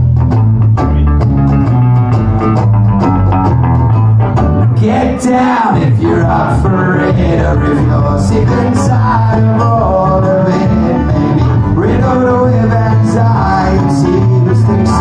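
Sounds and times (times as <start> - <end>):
live band playing folk song: 0.0 - 15.0.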